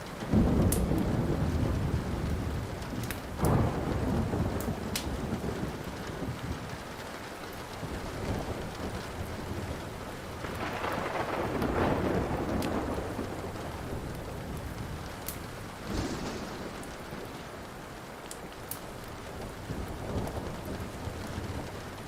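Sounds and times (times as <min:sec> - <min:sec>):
burning wood crackling: 0:00.0 - 0:22.0
steady rain: 0:00.0 - 0:22.0
thunder rumbling: 0:00.3 - 0:22.0.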